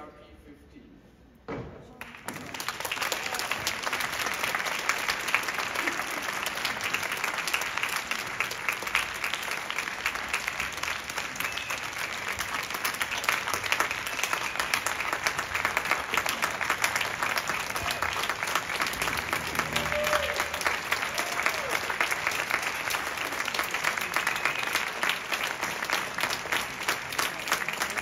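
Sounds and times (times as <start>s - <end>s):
large audience applauding: 2.0s - 28.0s.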